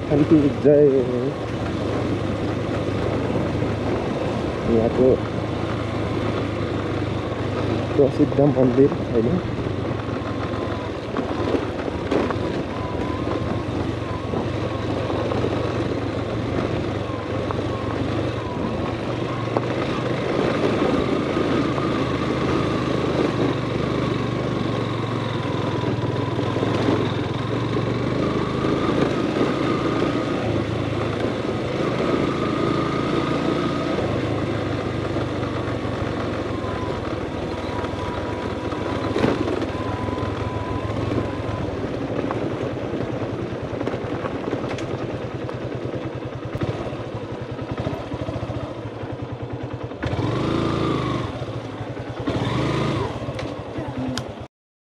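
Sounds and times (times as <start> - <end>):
motorcycle engine at low speed: 0.0 - 54.5.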